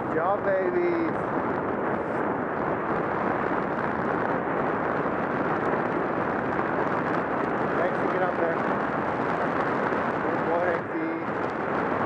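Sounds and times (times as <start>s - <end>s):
wind over microphone: 0.0s - 12.0s.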